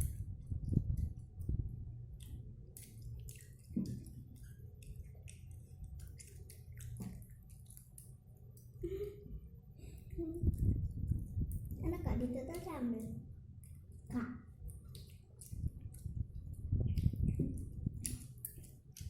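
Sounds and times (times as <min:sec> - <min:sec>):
child chewing wetly: 0:00.0 - 0:19.0.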